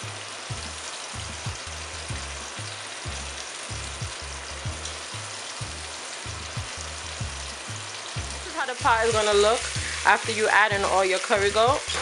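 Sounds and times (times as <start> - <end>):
background music beat: 0.0 - 12.0
meat sizzling in hot oil: 0.0 - 12.0.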